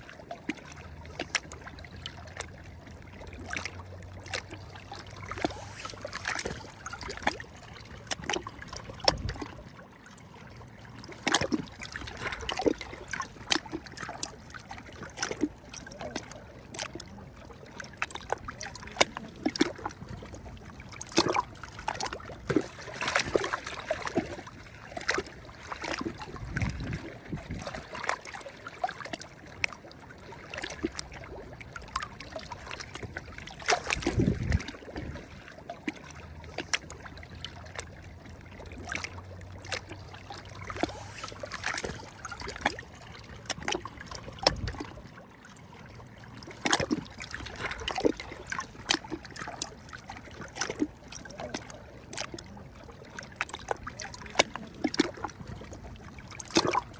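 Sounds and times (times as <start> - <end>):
small waves splashing on shore: 0.0 - 56.9.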